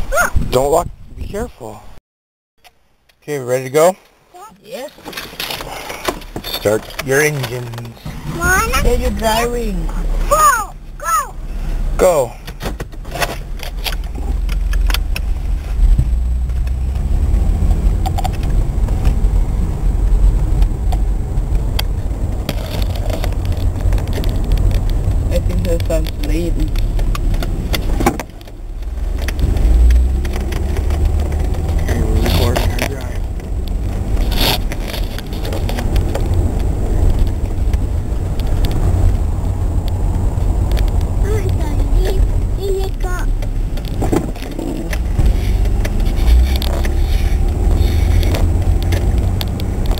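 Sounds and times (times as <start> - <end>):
car engine and road rumble: 0.0 - 2.0, 2.6 - 49.9.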